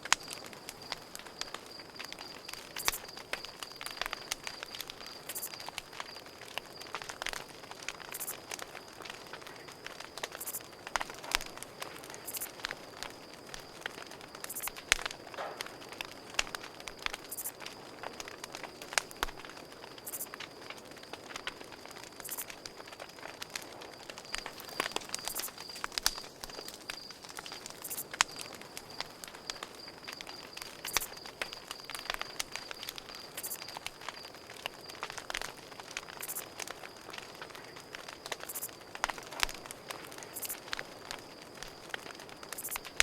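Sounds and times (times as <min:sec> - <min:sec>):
campfire crackling and popping: 0:00.0 - 0:43.0
cricket trill: 0:00.0 - 0:43.0.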